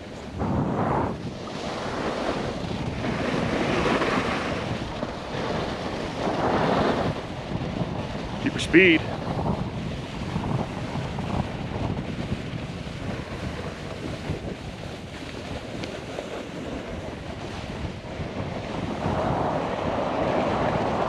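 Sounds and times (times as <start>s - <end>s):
snowboard sliding on slushy snow: 0.0s - 21.0s
wind buffeting microphone: 0.0s - 21.0s.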